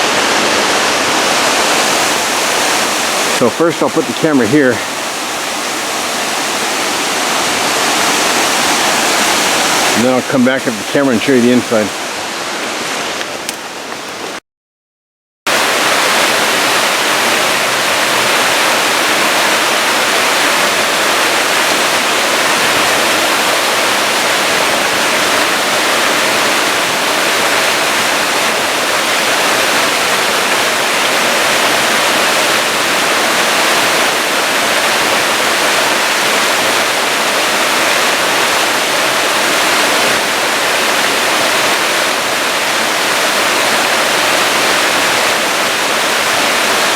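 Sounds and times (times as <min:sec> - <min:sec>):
waterfall rushing: 0:00.0 - 0:14.4, 0:15.5 - 0:46.9.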